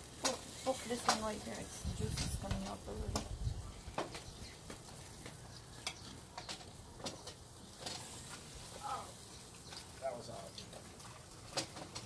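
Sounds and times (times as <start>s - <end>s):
oysters sizzling and popping: 0.0s - 12.0s.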